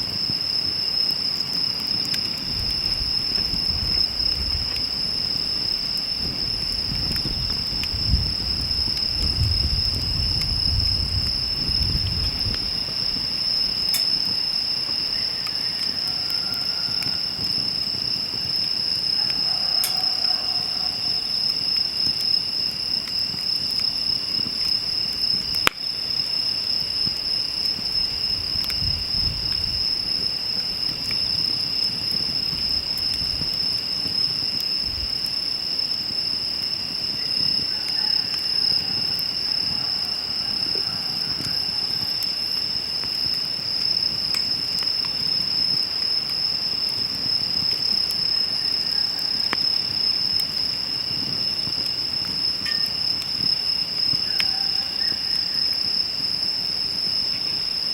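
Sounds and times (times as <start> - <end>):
insects trilling: 0.0 - 57.9
wood fire crackling: 0.0 - 57.9.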